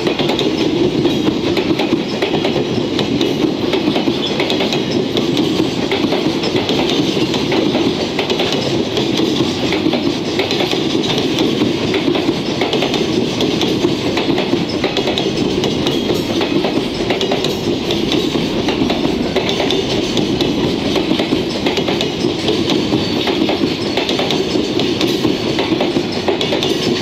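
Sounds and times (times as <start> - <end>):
train wheels rumbling on rail: 0.0 - 27.0
wheels clacking over rail joints: 0.0 - 27.0.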